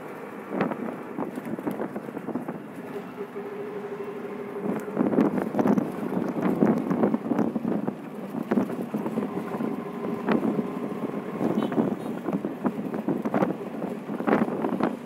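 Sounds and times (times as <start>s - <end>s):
auto-rickshaw engine: 0.0s - 15.0s
wind buffeting microphone: 0.0s - 15.0s.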